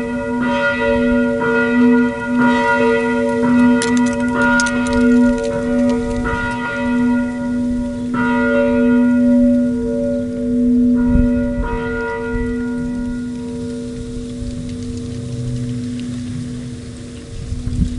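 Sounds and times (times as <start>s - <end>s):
church bell ringing: 0.0s - 17.5s.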